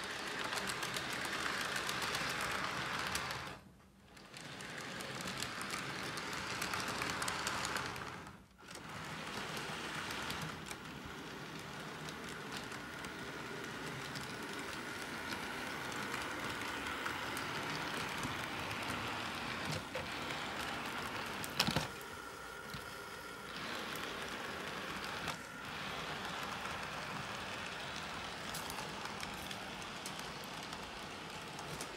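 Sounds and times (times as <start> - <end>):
model train wheels rattling on rail: 0.0 - 31.9.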